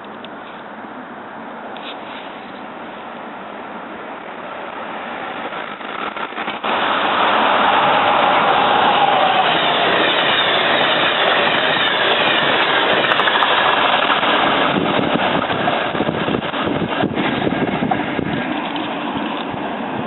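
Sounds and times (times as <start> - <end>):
train passing at speed: 0.0 - 20.0
wheels rushing on rail: 0.0 - 20.0.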